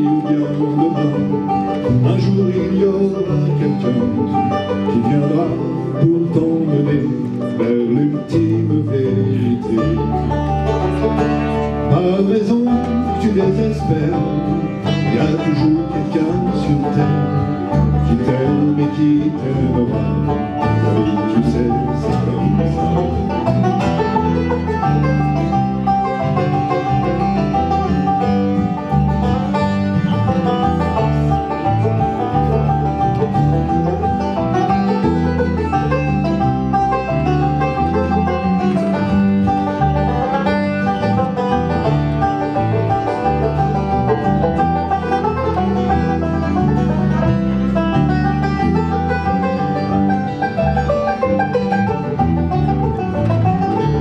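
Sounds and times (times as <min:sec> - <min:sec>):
acoustic guitar strumming: 0:00.0 - 0:54.0
banjo picking: 0:00.0 - 0:54.0
bass line: 0:00.0 - 0:54.0.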